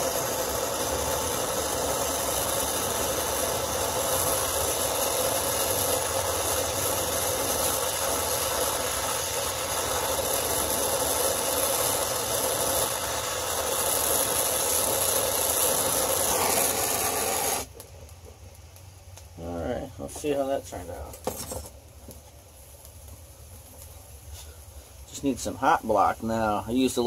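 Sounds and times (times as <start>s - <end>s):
torch flame hissing: 0.0s - 27.0s.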